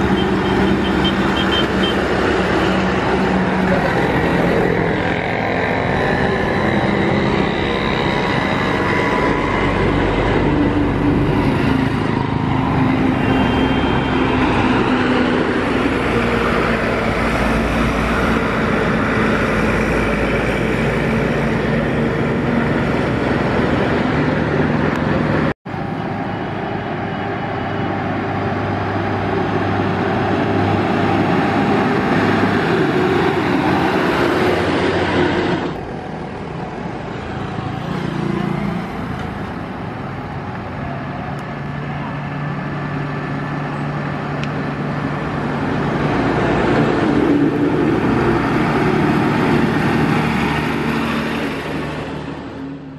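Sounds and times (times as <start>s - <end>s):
road traffic driving past: 0.0s - 52.9s.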